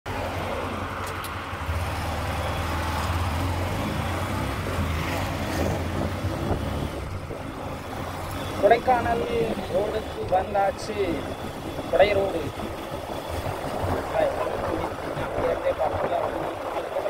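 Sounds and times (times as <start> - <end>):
wind and road rush: 0.1 - 17.0.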